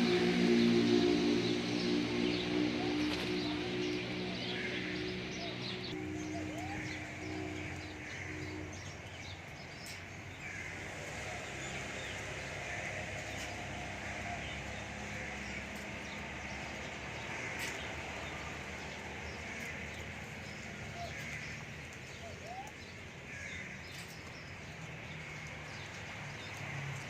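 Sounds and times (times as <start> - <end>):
birds chirping and calling: 0.0 - 26.8.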